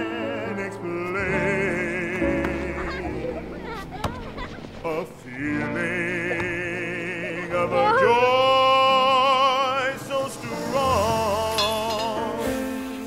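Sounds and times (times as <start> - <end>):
operatic singing voice: 0.0 - 3.6, 4.7 - 13.0.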